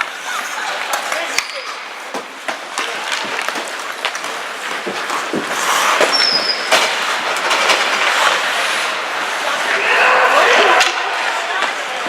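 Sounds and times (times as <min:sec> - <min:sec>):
rink crowd noise: 0:00.0 - 0:12.0
skate blades scraping ice: 0:00.0 - 0:12.0
sticks and puck clacking: 0:00.0 - 0:12.0.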